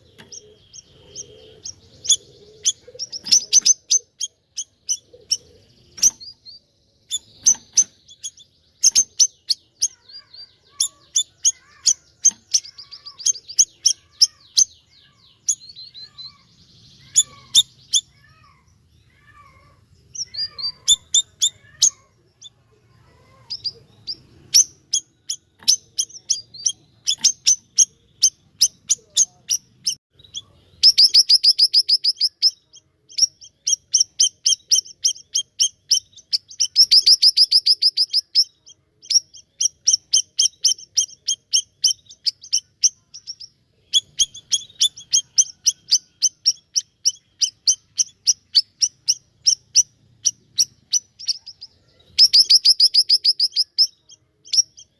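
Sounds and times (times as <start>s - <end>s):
bird chirping and trilling: 0.0s - 54.9s.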